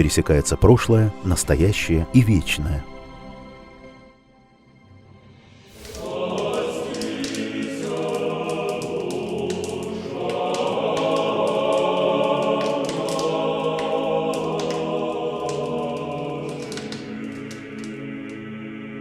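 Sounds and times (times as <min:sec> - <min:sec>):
choir singing sustained chords: 0:02.9 - 0:19.0.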